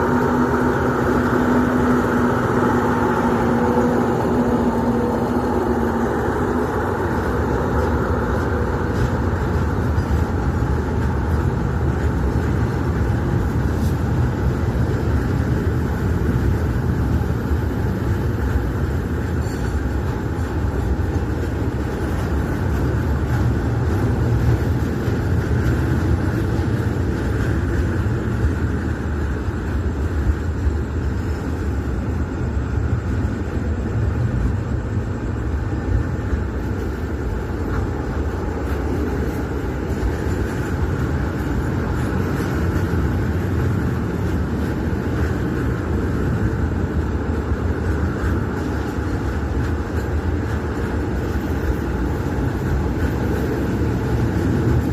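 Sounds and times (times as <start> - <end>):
diesel locomotive rumbling: 0.0 - 54.9.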